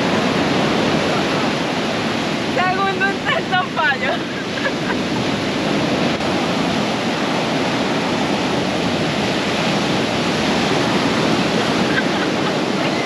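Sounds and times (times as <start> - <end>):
sea surf rushing on beach: 0.0 - 13.0.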